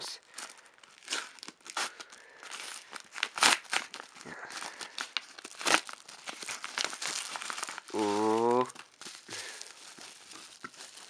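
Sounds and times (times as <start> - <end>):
package wrapping crackling: 0.2 - 11.0.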